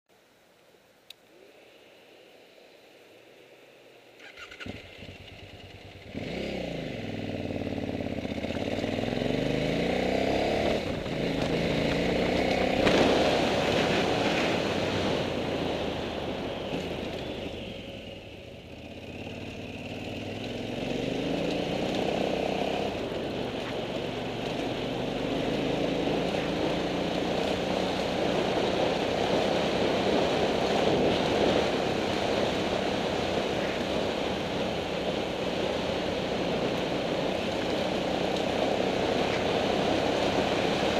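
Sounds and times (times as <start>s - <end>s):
motorcycle engine revving: 4.2s - 40.9s.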